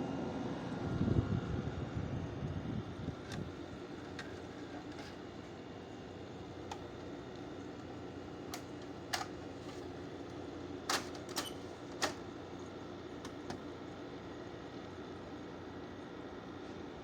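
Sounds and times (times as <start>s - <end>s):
air conditioner humming: 0.9s - 17.0s.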